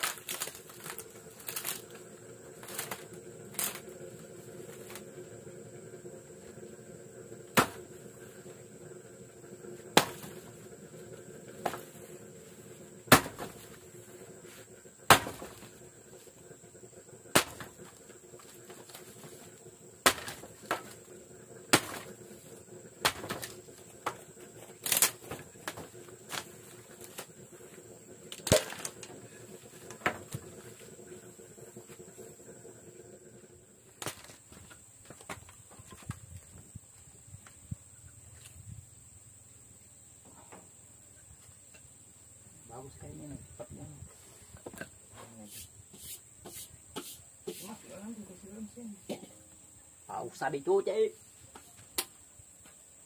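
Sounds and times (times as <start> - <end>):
faint high-pitched whine: 0.0 - 53.0.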